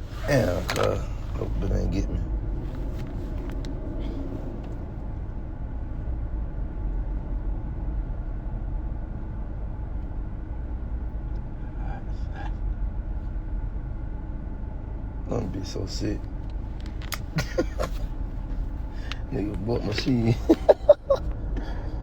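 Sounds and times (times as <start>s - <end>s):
low rumble inside moving vehicle: 0.0s - 22.0s.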